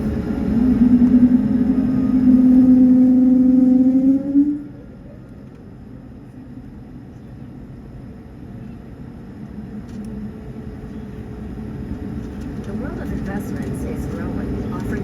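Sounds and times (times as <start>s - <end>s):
aircraft cabin rumble: 0.0s - 15.0s
faint steady hum: 0.0s - 15.0s.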